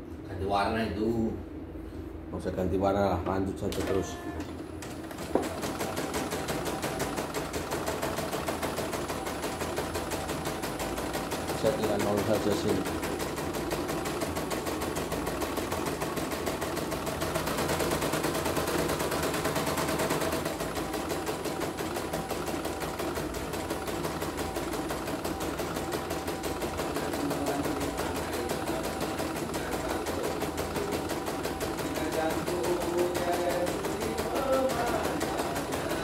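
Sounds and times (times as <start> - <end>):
embroidery machine needle clattering: 3.8 - 36.0.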